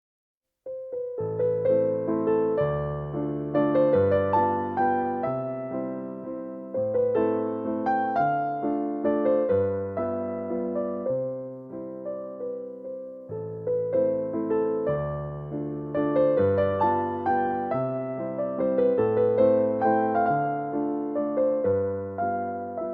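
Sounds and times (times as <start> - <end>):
gentle electric piano music: 0.7 - 22.9.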